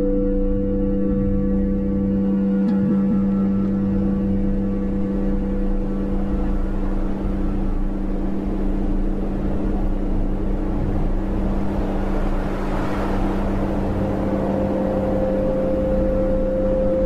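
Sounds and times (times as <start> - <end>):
low synthesized drone: 0.0 - 17.0.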